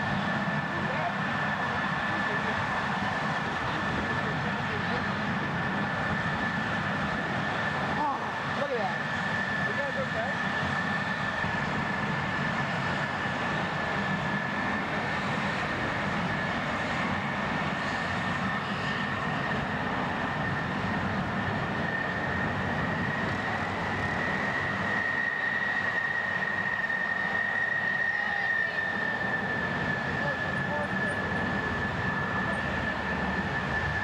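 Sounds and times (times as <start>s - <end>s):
jet engines whining: 0.0s - 34.0s.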